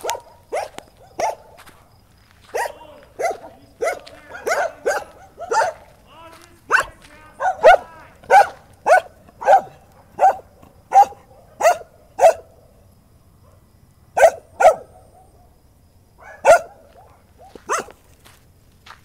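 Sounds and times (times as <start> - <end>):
dog barking: 0.0 - 1.9, 2.5 - 6.0, 6.7 - 12.7, 13.4 - 15.6, 16.2 - 18.0.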